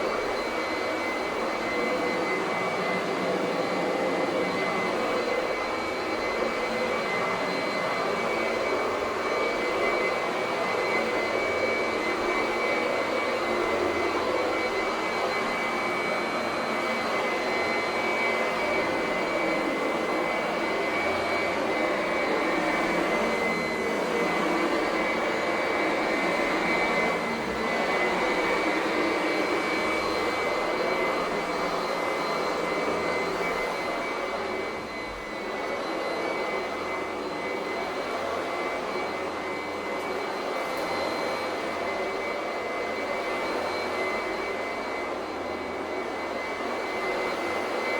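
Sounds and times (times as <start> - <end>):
vacuum cleaner motor running: 0.0 - 47.9.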